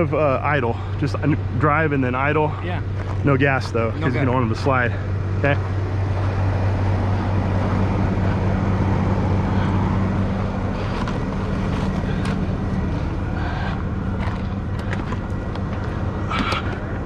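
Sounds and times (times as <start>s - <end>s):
deep hum: 0.0s - 17.0s
vehicle engine idling: 0.0s - 17.0s.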